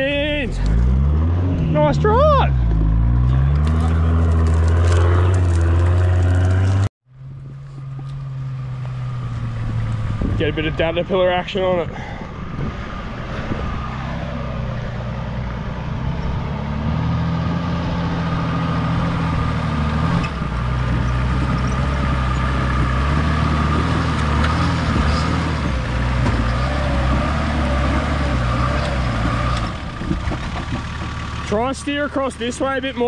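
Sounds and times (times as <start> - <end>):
truck engine under load: 0.0 - 33.0.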